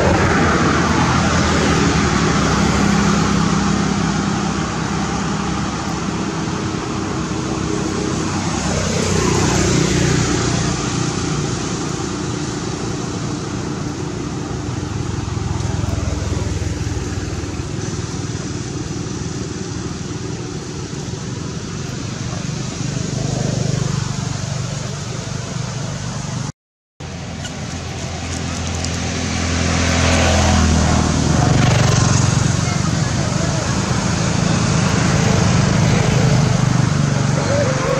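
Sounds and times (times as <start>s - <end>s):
motor vehicle passing by: 0.0s - 26.5s, 27.1s - 37.9s
road traffic noise: 0.0s - 37.9s
street noise: 0.0s - 37.9s.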